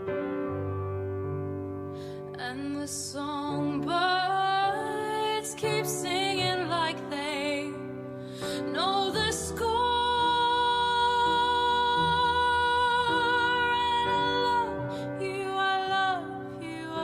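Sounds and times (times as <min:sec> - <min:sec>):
person singing slow soft song: 0:02.2 - 0:17.0.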